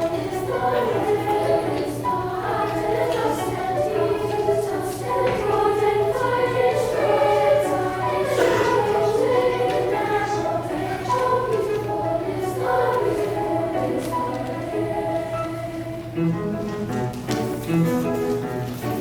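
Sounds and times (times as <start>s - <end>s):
children's choir singing: 0.0s - 19.0s.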